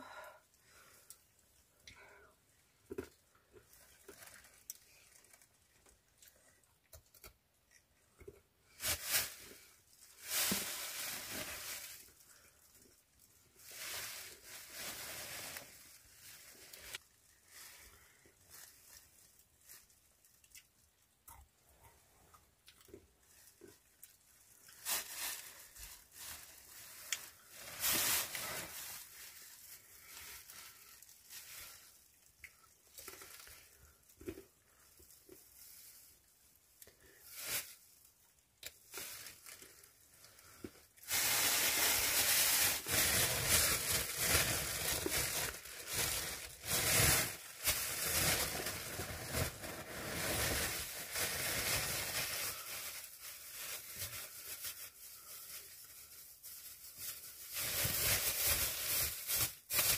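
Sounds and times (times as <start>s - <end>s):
plastic bag crinkling: 3.6s - 6.0s, 8.7s - 20.9s, 22.9s - 36.0s, 37.0s - 59.9s.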